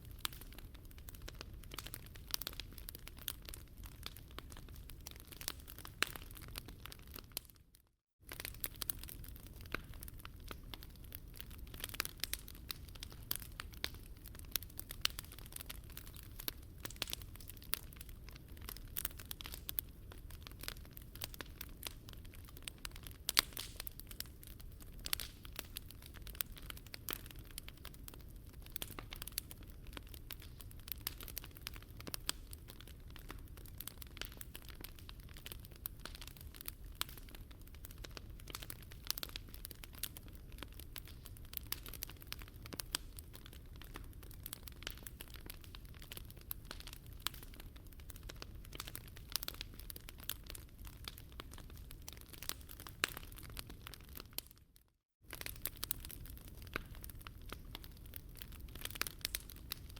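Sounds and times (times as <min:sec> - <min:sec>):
low fire rumble: 0:00.0 - 0:07.4, 0:08.3 - 0:54.4, 0:55.3 - 0:59.9
wood fire snaps and pops: 0:00.0 - 0:59.9.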